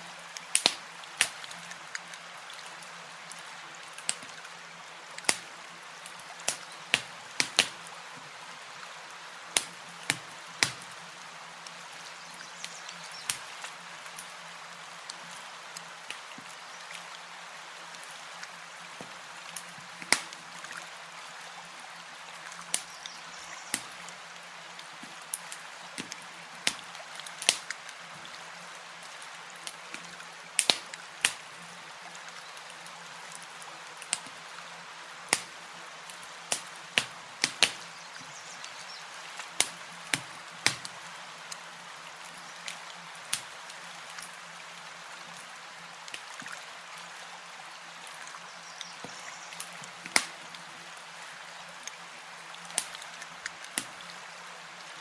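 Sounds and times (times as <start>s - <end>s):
campfire crackling: 0.1s - 21.0s, 21.6s - 44.5s, 45.2s - 46.4s, 48.0s - 51.1s, 52.6s - 54.1s.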